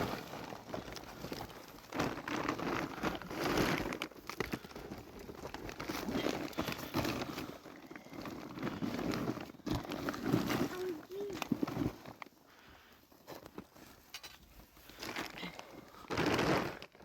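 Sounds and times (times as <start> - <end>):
crinkling and crunching: 0.0 - 17.0.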